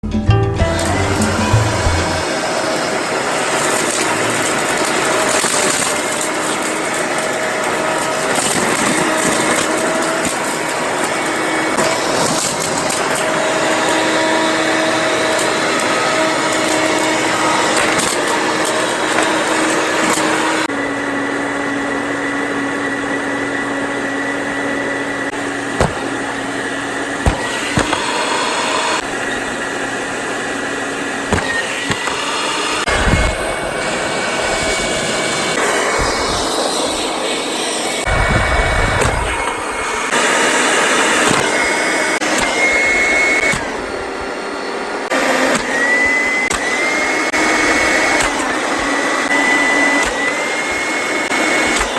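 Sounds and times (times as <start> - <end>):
vacuum cleaner motor whining: 0.8 - 51.9.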